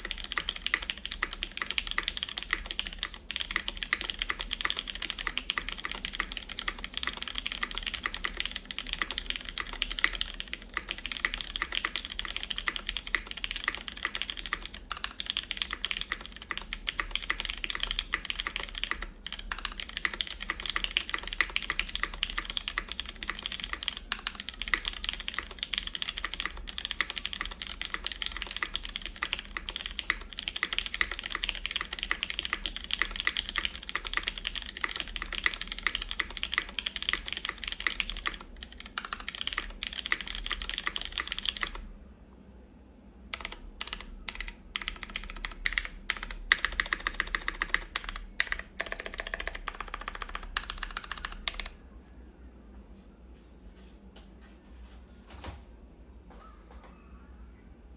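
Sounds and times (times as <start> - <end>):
mechanical keyboard typing: 0.0 - 41.9, 43.3 - 51.8.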